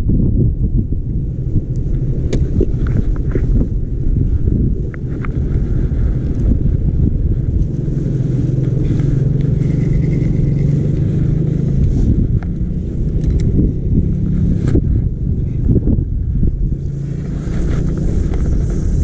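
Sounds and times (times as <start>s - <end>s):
engine humming: 0.0s - 19.0s
wind buffeting microphone: 0.0s - 19.0s.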